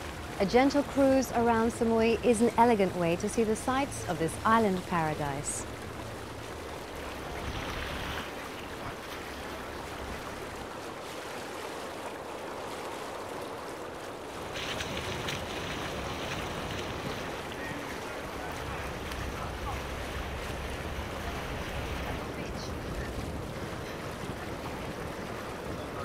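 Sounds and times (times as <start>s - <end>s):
water splashing along a hull: 0.0s - 26.0s
wind: 0.0s - 26.0s.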